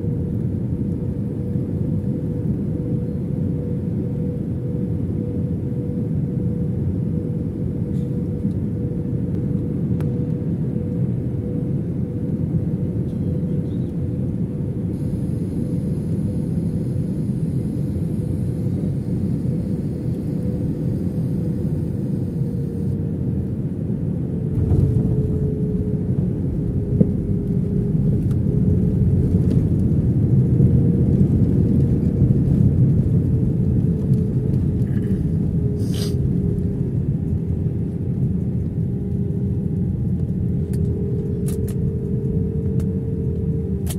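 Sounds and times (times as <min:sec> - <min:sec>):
jet engine rumble in cabin: 0:00.0 - 0:43.9.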